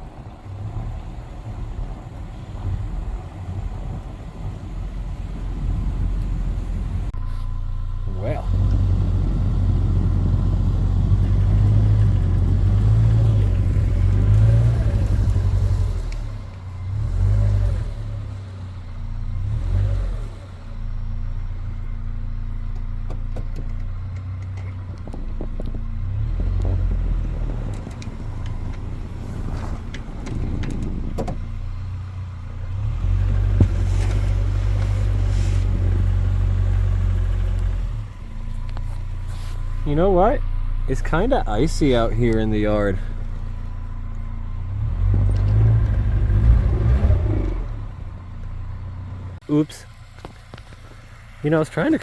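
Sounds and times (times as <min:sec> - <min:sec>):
truck engine rumbling: 0:00.0 - 0:52.0.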